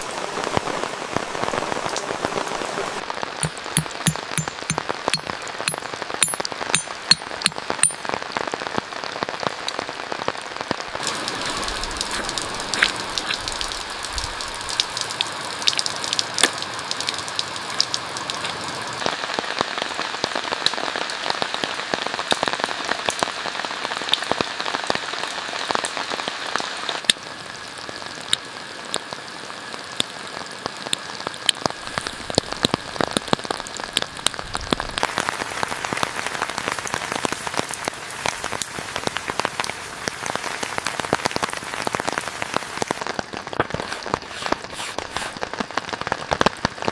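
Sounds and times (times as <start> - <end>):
raindrops striking close by: 0.0 - 46.9
steady rainfall: 0.0 - 46.9.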